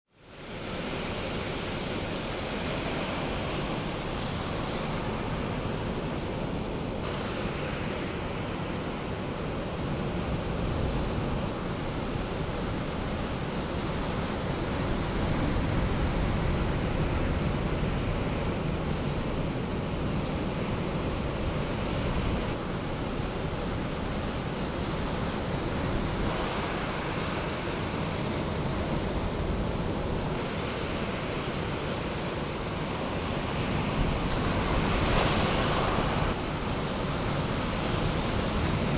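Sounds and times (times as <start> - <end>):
waves crashing on beach: 0.2 - 38.9.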